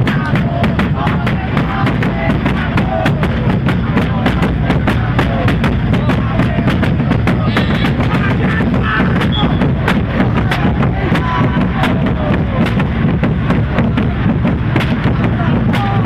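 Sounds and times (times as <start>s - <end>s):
music with steady drum beat: 0.0s - 16.0s
voices over music: 0.0s - 16.0s.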